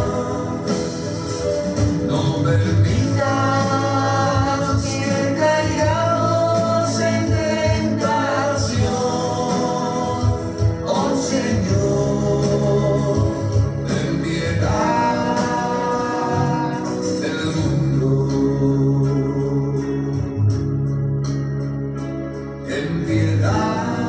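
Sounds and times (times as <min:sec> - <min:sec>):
worship song singing: 0:00.0 - 0:24.0.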